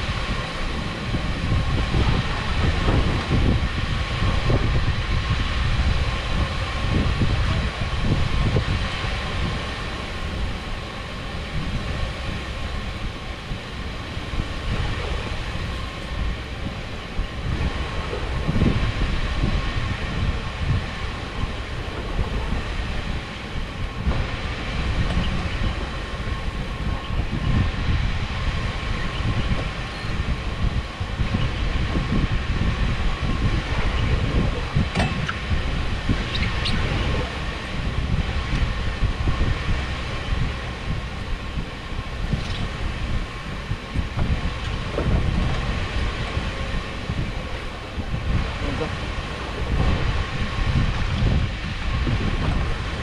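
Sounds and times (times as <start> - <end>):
machinery rumble with high hum: 0.0 - 53.0
wind buffeting microphone: 0.0 - 53.0.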